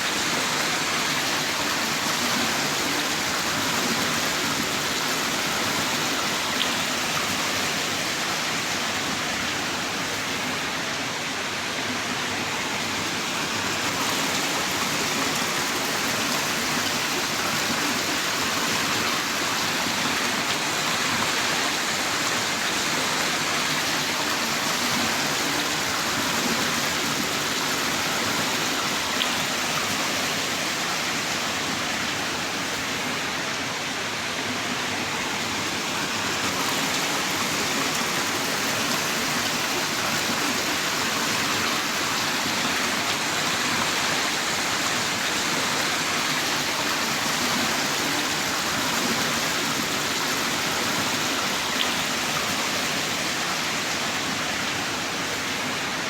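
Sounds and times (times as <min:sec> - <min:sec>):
heavy rain downpour: 0:00.0 - 0:56.0.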